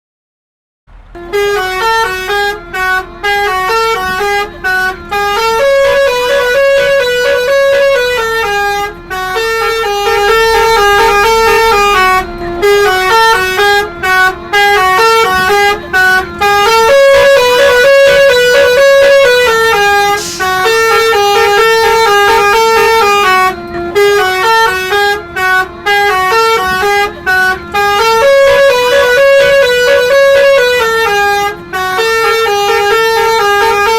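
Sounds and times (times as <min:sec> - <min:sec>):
musical bus air horn: 0:00.9 - 0:33.9.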